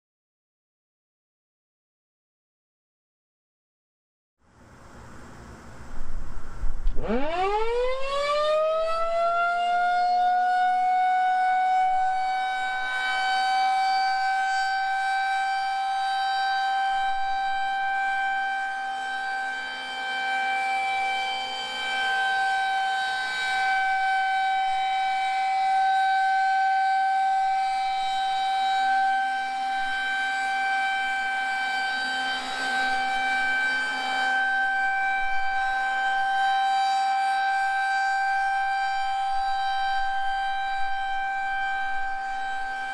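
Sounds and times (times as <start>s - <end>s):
rotating siren steady tone: 6.5s - 42.9s.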